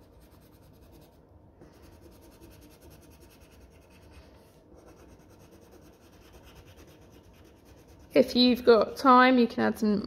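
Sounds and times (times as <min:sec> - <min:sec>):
pencil scratching on paper: 0:00.0 - 0:08.4.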